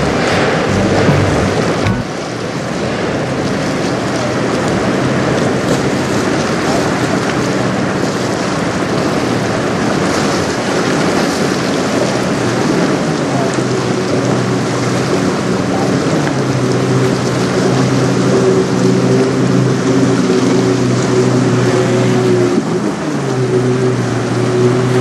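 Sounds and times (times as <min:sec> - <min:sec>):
outboard motor droning: 0:00.0 - 0:25.0
water noise: 0:00.0 - 0:25.0
wind: 0:00.0 - 0:25.0.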